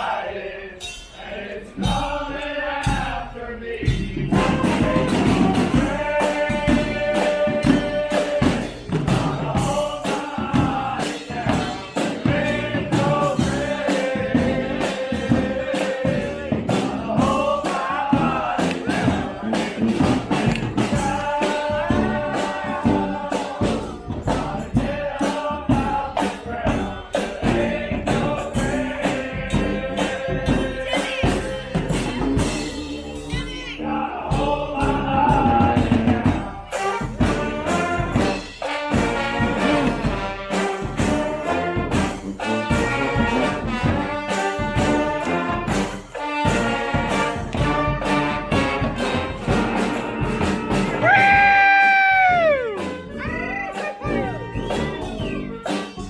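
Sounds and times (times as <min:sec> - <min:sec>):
steady drumming: 0:00.8 - 0:33.6, 0:34.2 - 0:56.0
horns playing a melody: 0:04.3 - 0:56.0.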